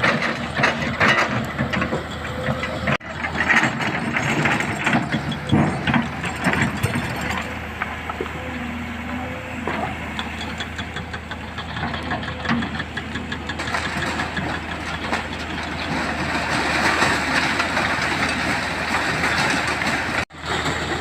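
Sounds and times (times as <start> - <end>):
steel clanking and scraping on stone: 0.0 - 20.3
excavator engine running: 0.0 - 21.0.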